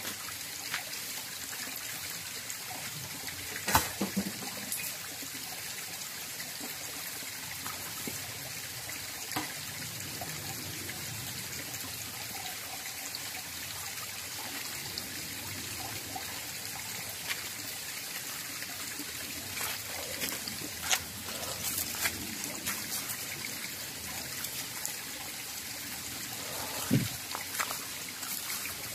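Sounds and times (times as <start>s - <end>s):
stream trickling over rocks: 0.0s - 28.9s.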